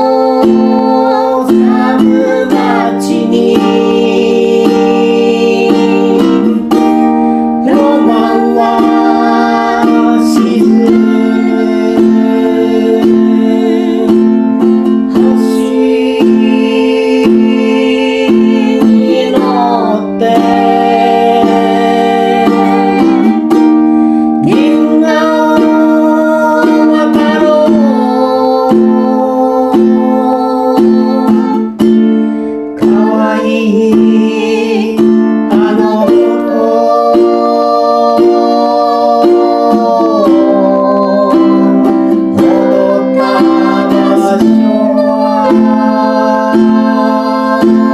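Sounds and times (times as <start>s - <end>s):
plucked string instrument: 0.0s - 47.9s
sliding held melody notes: 0.0s - 47.9s.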